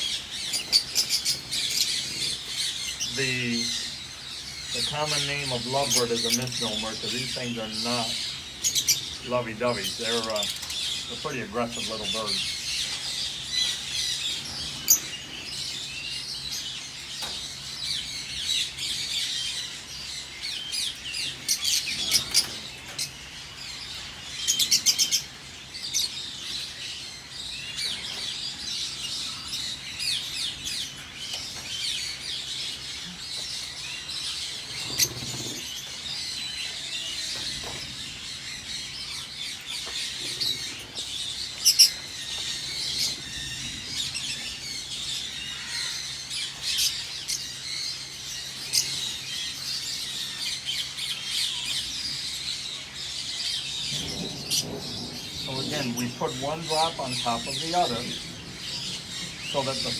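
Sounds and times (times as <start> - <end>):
lovebirds chattering: 0.0 - 59.9.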